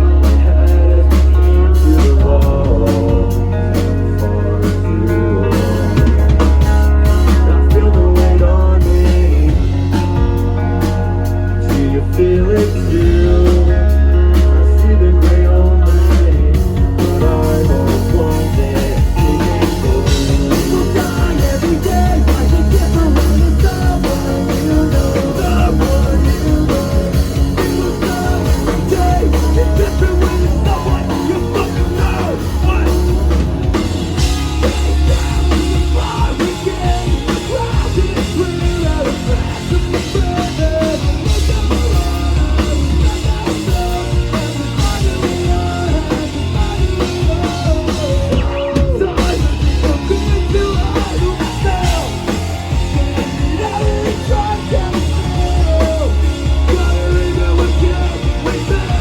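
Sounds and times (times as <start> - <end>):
drum kit: 0.0 - 59.0
electric guitars: 0.0 - 59.0
heavy bass: 0.0 - 59.0
person singing: 0.0 - 59.0.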